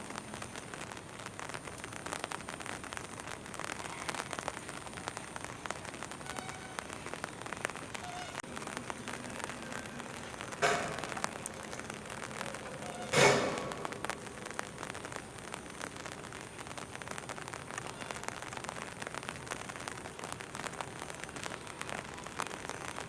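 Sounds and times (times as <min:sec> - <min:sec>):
raindrops ticking: 0:00.0 - 0:23.0
steady rain falling: 0:00.0 - 0:23.0.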